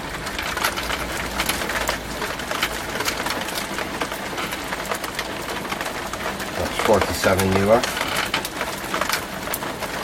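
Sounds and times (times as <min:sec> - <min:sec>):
rain drips and splashes: 0:00.0 - 0:10.0.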